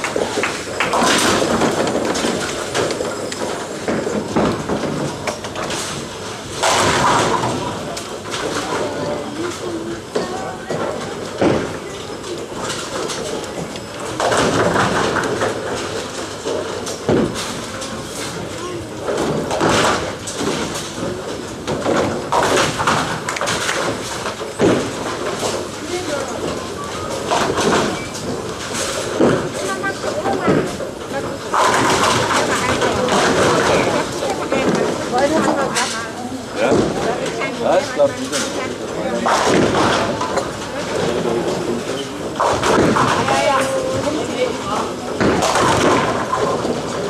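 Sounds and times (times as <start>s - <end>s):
bowling balls rumbling: 0.0s - 47.0s.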